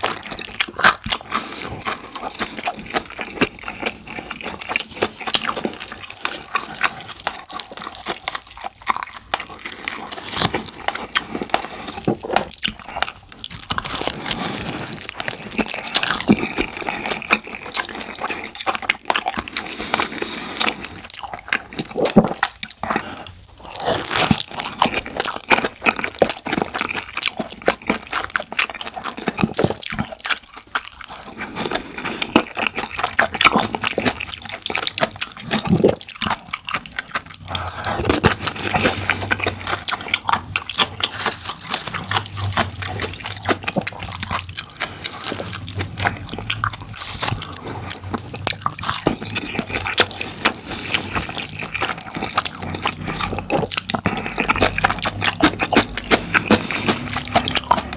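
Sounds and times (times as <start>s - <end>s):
person chewing with wet mouth clicks: 0.0s - 57.9s.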